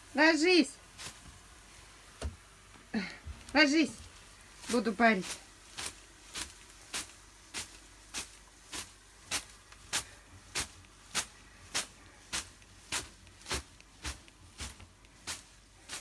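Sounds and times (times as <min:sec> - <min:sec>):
bath broom swatting: 0:00.0 - 0:16.0.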